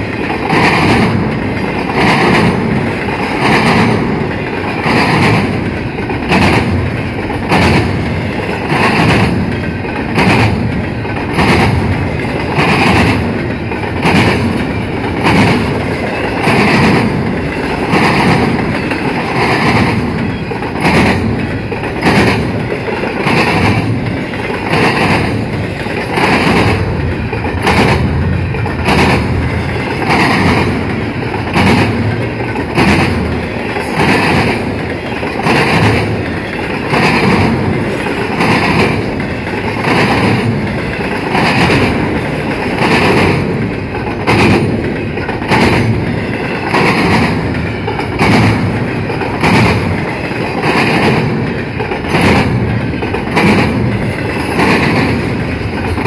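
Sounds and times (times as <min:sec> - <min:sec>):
train rumbling past: 0:00.0 - 0:56.0
train wheels clacking: 0:00.0 - 0:56.0.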